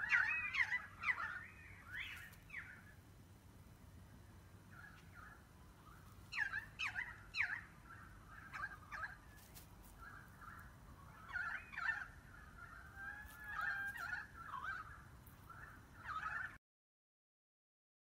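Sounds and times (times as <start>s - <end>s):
sparrows chirping: 0.0s - 3.0s, 4.6s - 16.3s.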